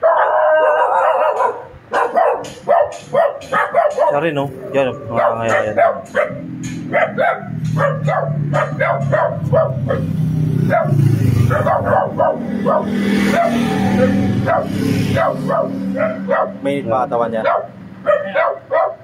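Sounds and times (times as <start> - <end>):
dog yelping: 0.0 - 16.6, 17.4 - 19.0.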